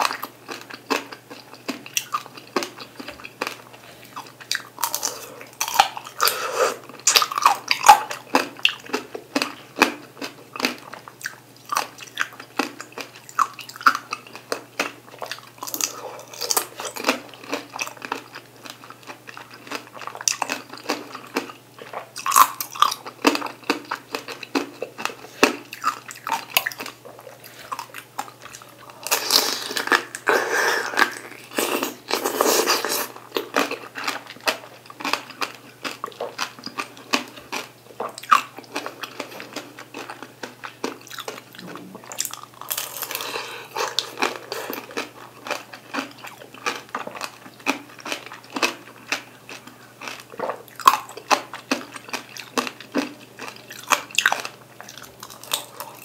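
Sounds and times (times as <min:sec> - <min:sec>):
candy shell crackling while chewed: 0:00.0 - 0:56.0.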